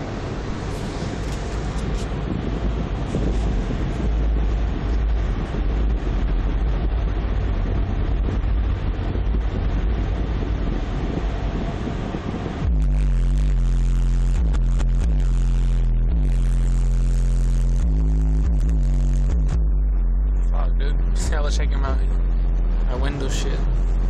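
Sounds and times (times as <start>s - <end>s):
car subwoofers playing heavy bass: 0.0s - 24.0s.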